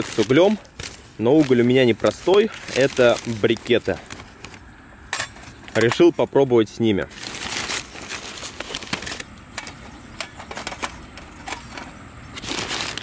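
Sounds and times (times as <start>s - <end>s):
plastic bag rustling: 0.0s - 4.8s, 5.4s - 13.0s
charcoal briquettes clattering: 0.0s - 13.0s.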